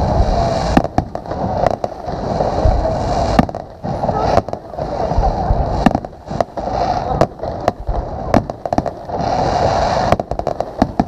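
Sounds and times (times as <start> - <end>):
low rumble: 0.0 - 10.6
fireworks bangs: 0.0 - 11.0
fireworks crackling: 0.0 - 11.0.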